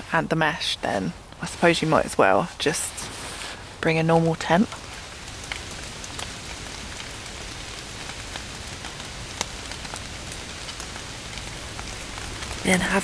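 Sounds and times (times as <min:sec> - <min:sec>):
light rain hiss: 0:00.0 - 0:13.0
raindrops ticking: 0:00.1 - 0:13.0.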